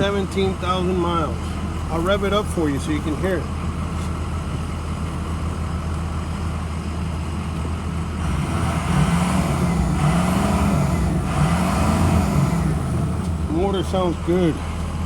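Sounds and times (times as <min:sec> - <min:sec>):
bus engine idling and revving: 0:00.0 - 0:15.0.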